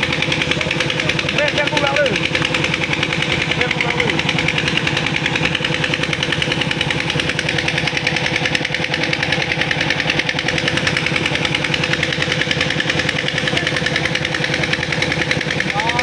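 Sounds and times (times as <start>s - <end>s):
tractor engine knocking: 0.0s - 16.0s.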